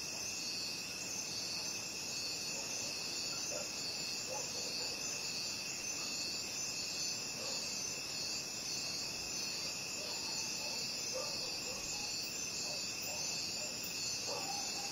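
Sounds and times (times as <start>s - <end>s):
crickets trilling: 0.0s - 14.9s.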